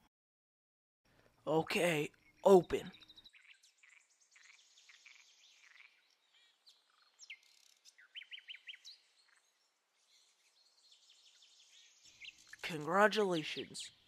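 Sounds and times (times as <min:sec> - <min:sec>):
faint birdsong: 0:01.1 - 0:14.0.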